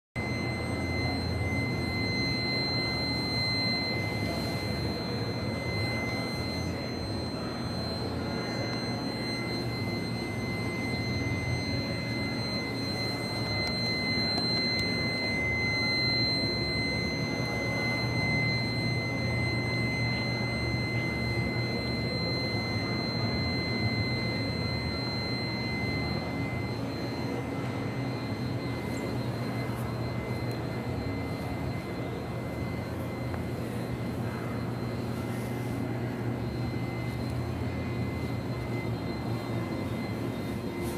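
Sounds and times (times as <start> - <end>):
high-pitched whine: 0.2 - 40.9
indoor hall background roar: 0.2 - 40.9.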